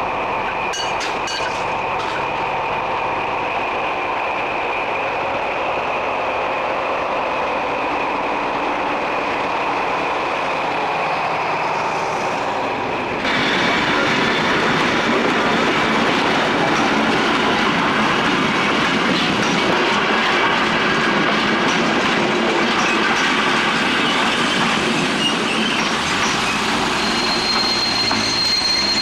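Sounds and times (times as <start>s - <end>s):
diesel locomotive engine drone: 0.0s - 29.0s
train wheels on rails: 0.0s - 29.0s.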